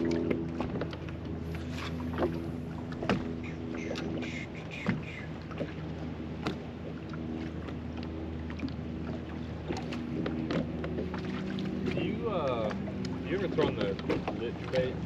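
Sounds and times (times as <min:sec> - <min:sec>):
electric boat motor humming: 0:00.0 - 0:15.0.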